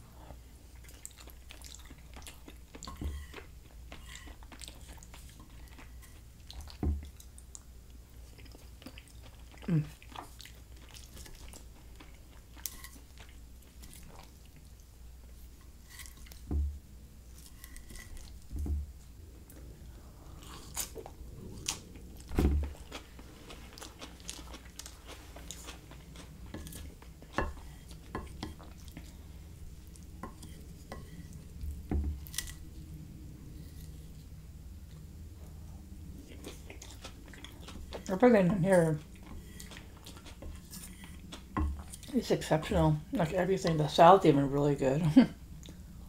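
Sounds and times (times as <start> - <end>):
chewing and crunching food: 0.2 - 16.6, 17.3 - 44.0.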